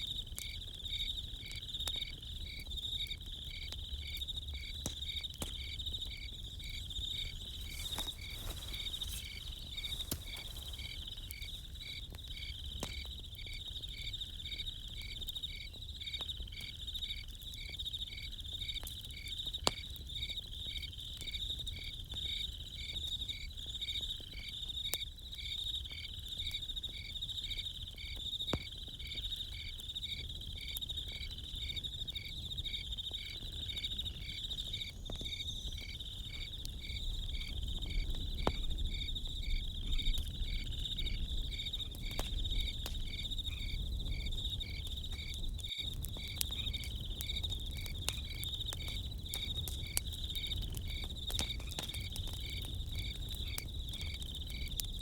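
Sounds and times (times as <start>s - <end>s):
campfire popping and crackling: 0.0s - 55.0s
crickets chirping: 0.0s - 55.0s.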